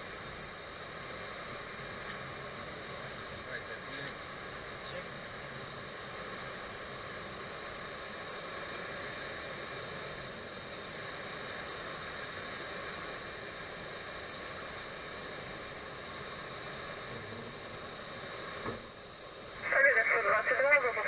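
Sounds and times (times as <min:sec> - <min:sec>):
aircraft engine and air rush: 0:00.0 - 0:21.0
faint steady whines: 0:00.0 - 0:21.0.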